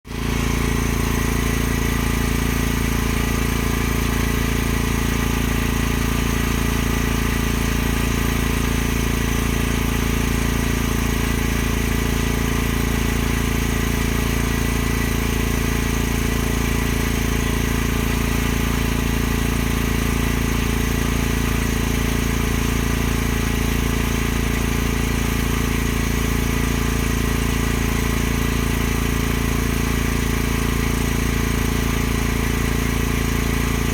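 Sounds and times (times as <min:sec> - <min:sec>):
motor humming steadily: 0:00.1 - 0:33.9.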